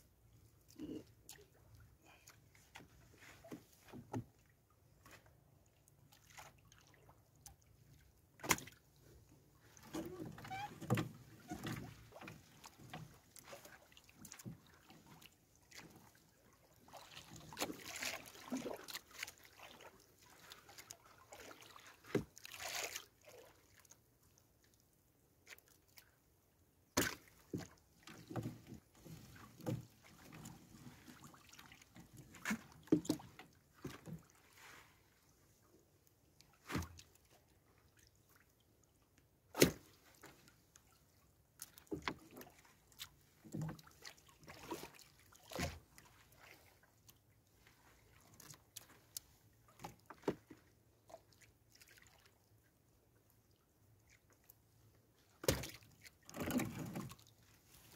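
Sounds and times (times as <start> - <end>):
water dripping and sloshing: 0.3 - 24.8, 26.9 - 57.9.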